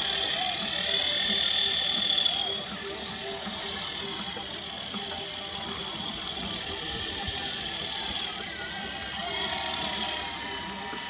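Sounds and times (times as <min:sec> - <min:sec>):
toy helicopter motor whine: 0:00.0 - 0:11.0.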